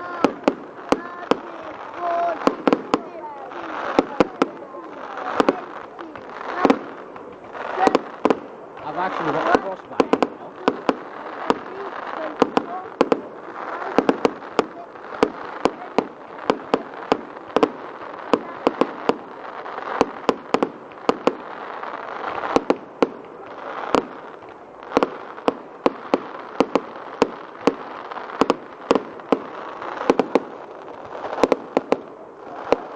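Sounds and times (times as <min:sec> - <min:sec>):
fireworks bangs: 0:00.0 - 0:32.9
steady hiss: 0:00.0 - 0:32.9.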